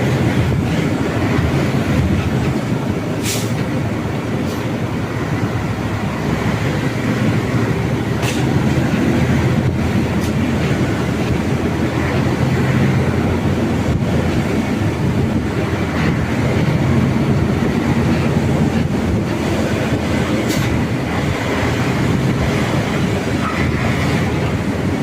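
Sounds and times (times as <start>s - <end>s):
road rumble: 0.0s - 25.0s
truck diesel engine running: 0.0s - 25.0s.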